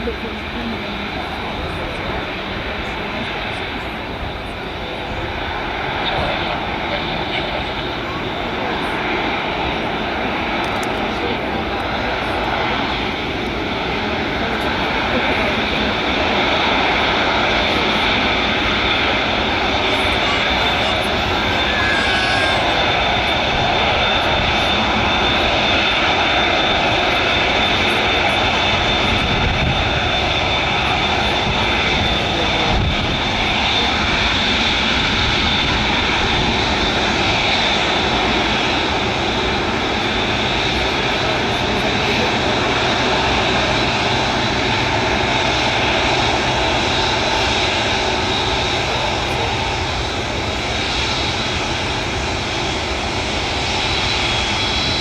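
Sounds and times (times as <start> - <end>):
high jet whine: 0.0 - 55.0
jet engines rushing: 0.0 - 55.0.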